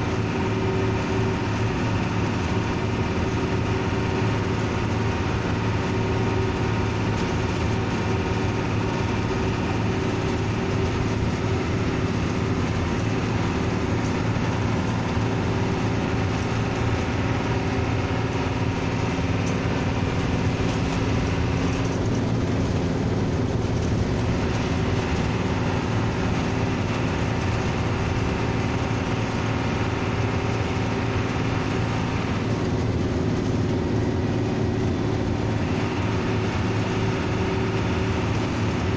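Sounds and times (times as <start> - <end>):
bus engine droning: 0.0 - 38.9.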